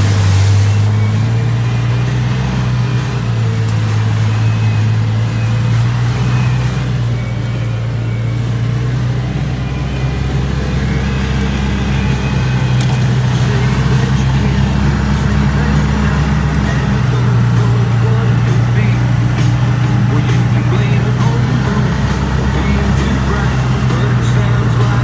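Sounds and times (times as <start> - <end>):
road noise: 0.0 - 25.0
vehicle engine drone: 0.0 - 25.0.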